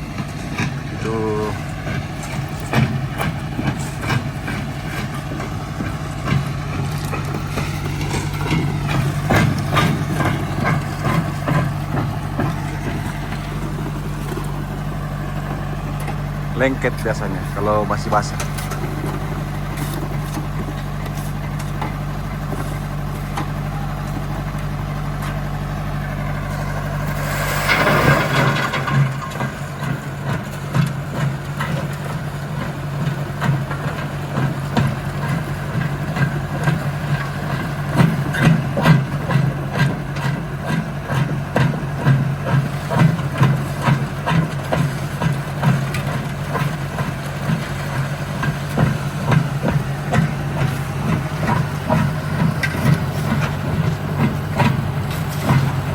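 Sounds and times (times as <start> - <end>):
stone crusher engine running: 0.0 - 55.9.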